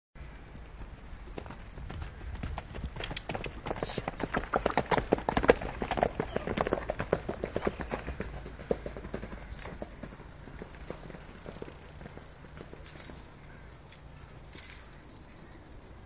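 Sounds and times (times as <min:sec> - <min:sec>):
horse hoofbeats on gravel: 0:00.2 - 0:16.0.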